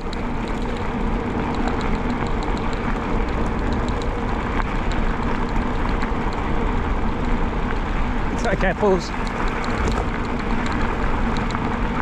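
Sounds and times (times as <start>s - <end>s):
light ticking: 0.0s - 7.8s, 8.4s - 12.0s
tyres rumbling on gravel: 0.0s - 12.0s
wind noise: 0.0s - 12.0s.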